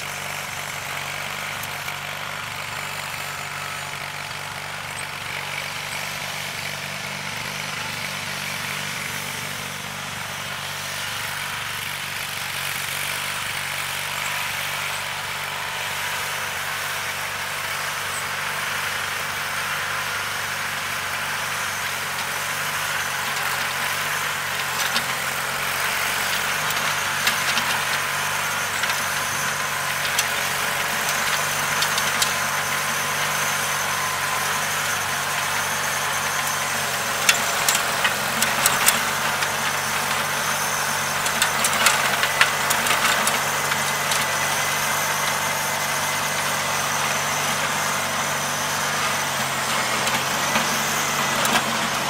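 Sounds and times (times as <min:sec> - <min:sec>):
tiller churning through sod: 0:00.0 - 0:52.0
tractor engine running: 0:00.0 - 0:52.0.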